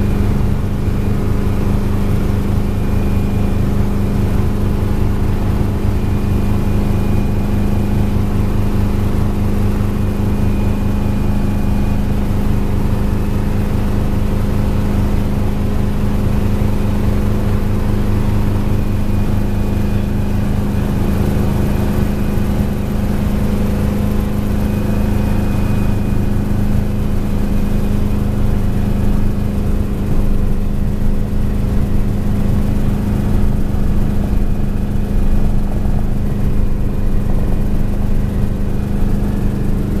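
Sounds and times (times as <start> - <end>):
helicopter engine and rotor: 0.0 - 40.0.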